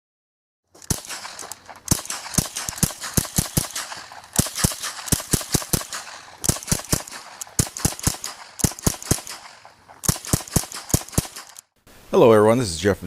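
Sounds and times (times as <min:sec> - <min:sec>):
rapid rifle fire: 0:00.8 - 0:11.7.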